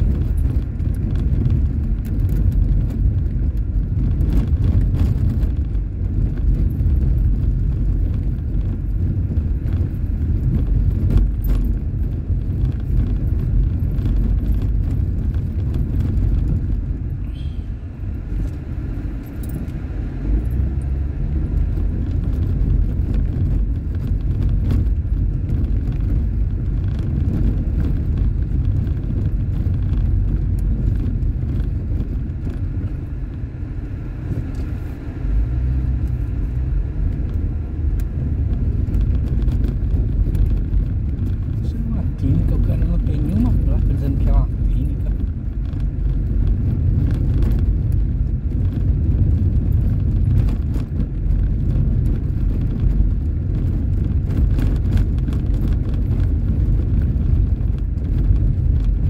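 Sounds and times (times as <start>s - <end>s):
engine and tyre rumble: 0.0s - 59.0s
interior rattles and clicks: 0.0s - 59.0s.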